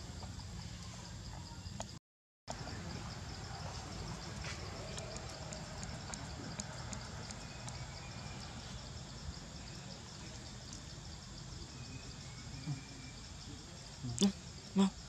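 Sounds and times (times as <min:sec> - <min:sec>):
pulsing insect trill: 0:00.0 - 0:15.0.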